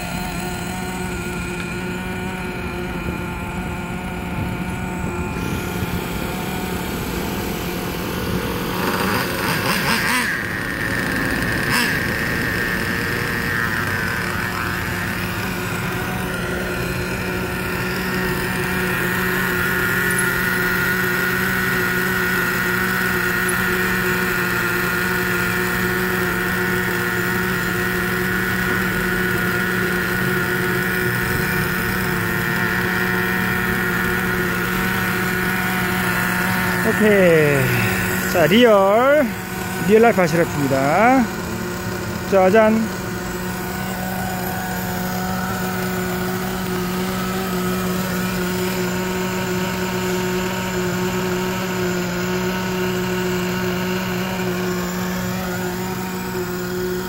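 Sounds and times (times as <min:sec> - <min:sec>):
small engines idling: 0:00.0 - 0:57.0.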